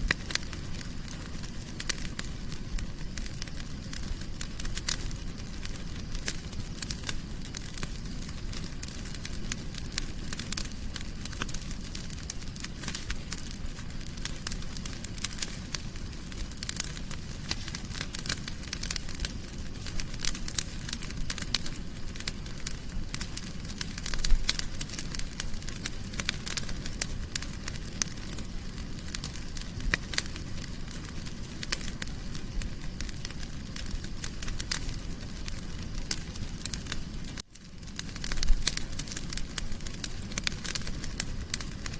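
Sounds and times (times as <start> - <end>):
fire pop: 0.0 - 41.9
wood fire crackling: 0.0 - 41.9.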